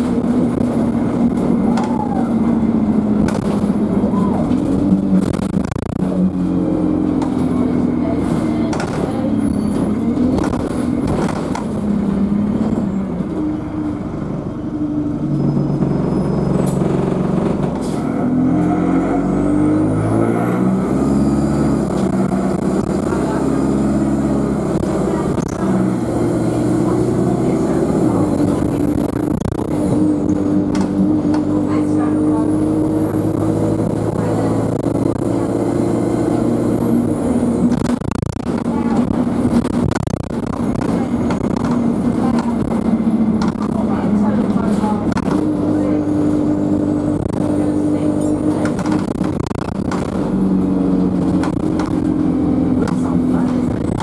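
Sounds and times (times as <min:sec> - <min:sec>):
bus diesel engine: 0:00.0 - 0:54.0
high turbo whine: 0:09.1 - 0:54.0.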